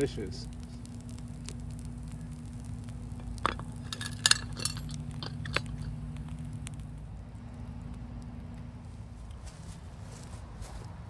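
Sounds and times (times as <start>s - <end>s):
low hum: 0.0s - 11.0s
wood fire crackling: 0.0s - 11.0s.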